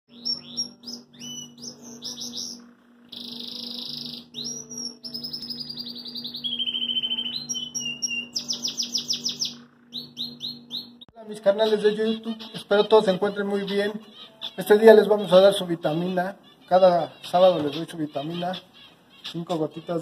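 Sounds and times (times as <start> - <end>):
canary singing: 0.1 - 20.0.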